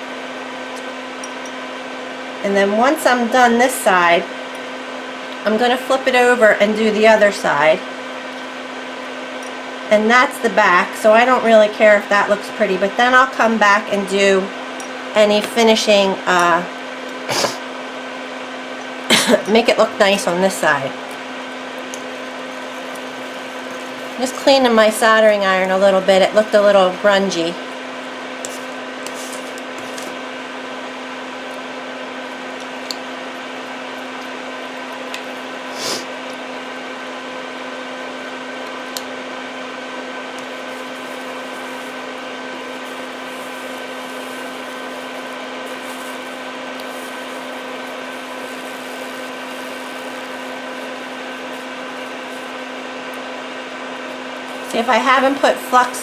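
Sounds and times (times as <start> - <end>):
electric fan humming: 0.0 - 56.0.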